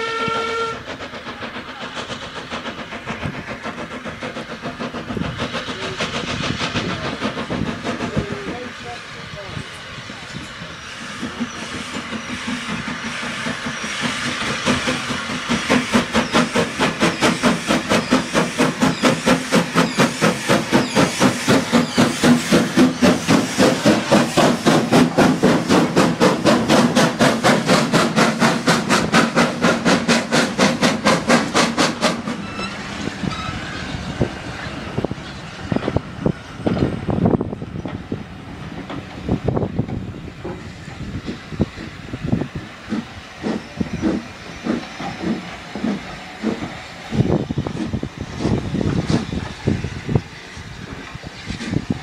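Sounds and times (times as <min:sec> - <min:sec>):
train wheels clicking and knocking: 0:00.0 - 0:09.0, 0:10.2 - 0:52.0
steam locomotive exhaust beats: 0:00.0 - 0:52.0.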